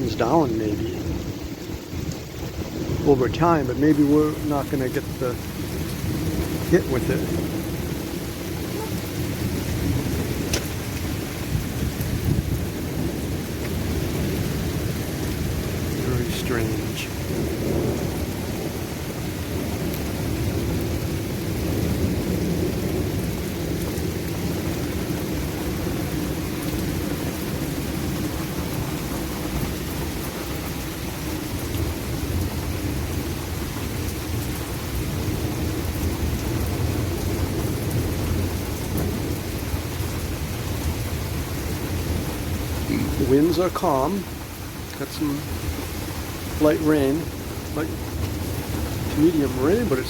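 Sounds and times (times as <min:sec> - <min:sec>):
light rain falling: 0:00.0 - 0:50.0
thunderstorm low roar: 0:00.0 - 0:50.0.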